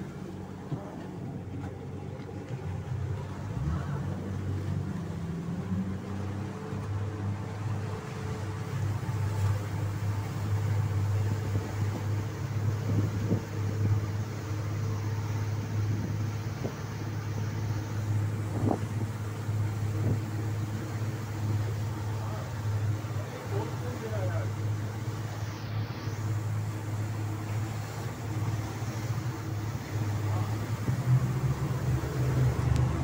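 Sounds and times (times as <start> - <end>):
speedboat engine drone: 0.0 - 33.0
water rushing in wake: 0.0 - 33.0.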